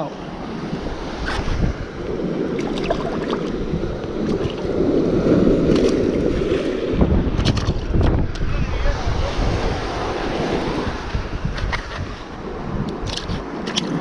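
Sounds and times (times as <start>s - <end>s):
surf washing over rocks: 0.0s - 14.0s
wind buffeting microphone: 0.0s - 14.0s.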